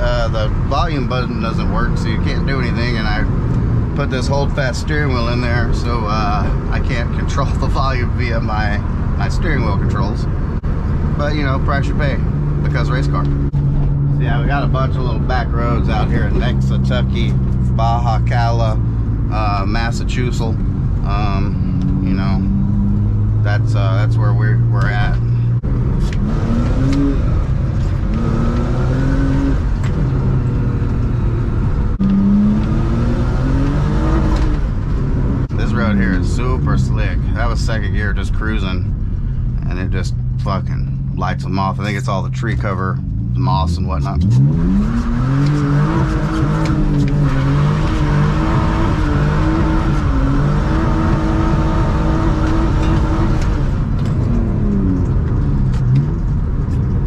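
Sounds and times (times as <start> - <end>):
car engine revving while driving: 0.0 - 57.0.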